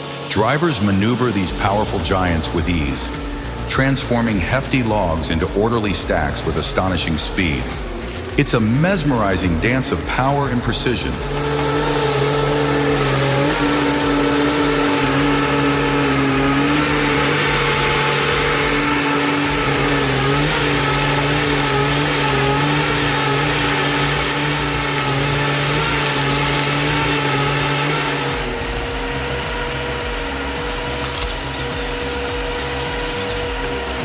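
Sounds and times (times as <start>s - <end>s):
heavy machine engine running: 0.0s - 34.0s.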